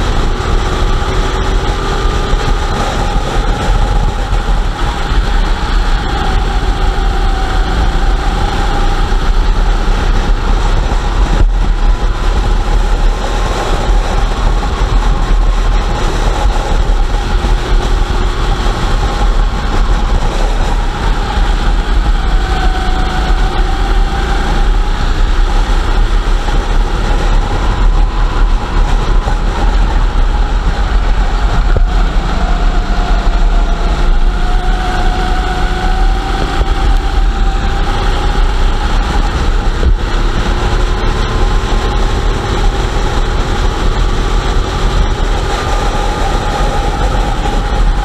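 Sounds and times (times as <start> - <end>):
go-kart engines racing: 0.0 - 48.0.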